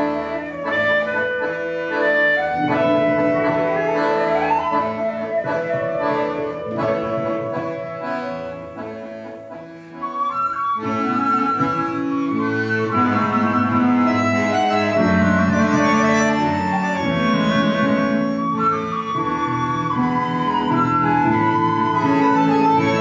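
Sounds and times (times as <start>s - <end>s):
high flute: 0.0s - 8.7s, 10.1s - 23.0s
chamber quartet playing: 0.0s - 23.0s.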